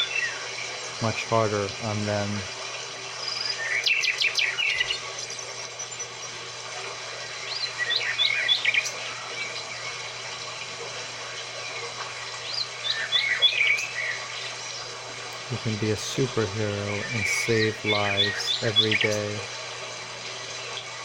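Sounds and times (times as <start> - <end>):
birds chirping: 0.0 - 21.0
outdoor background noise: 0.0 - 21.0.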